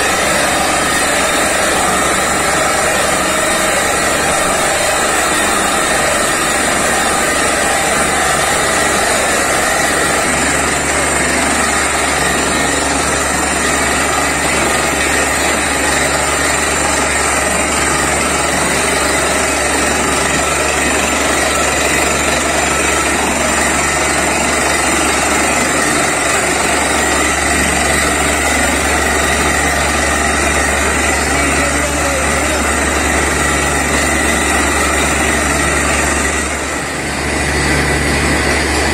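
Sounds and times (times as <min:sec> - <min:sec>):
drilling rig engine droning: 0:00.0 - 0:38.9.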